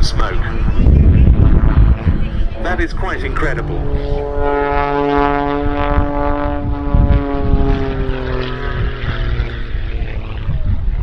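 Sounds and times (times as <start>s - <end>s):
propeller plane engine in flight: 0.0s - 11.0s.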